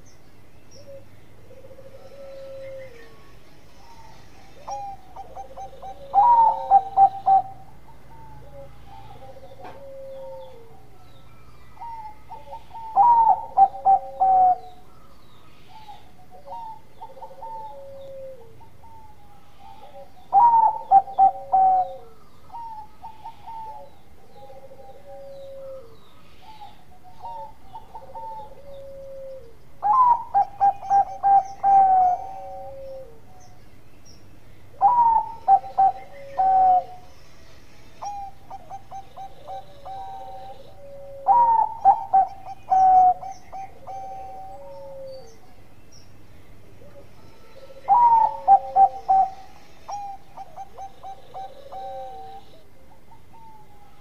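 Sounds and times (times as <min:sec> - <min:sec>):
dove cooing song: 0:00.0 - 0:54.0
soft low dove coos: 0:00.8 - 0:33.7, 0:34.6 - 0:45.7, 0:46.7 - 0:54.0.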